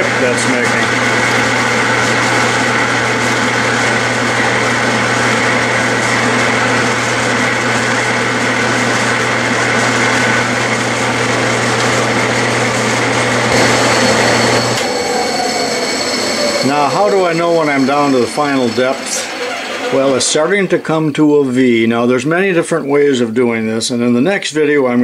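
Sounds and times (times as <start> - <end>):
lathe cutting a thread: 0.0 - 20.8
metal lathe running: 0.0 - 21.4.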